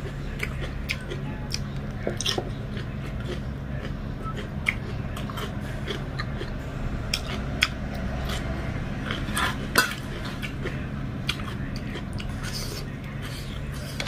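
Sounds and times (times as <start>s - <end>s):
soft chewing: 0.0s - 14.0s
steady low hum: 0.0s - 14.0s.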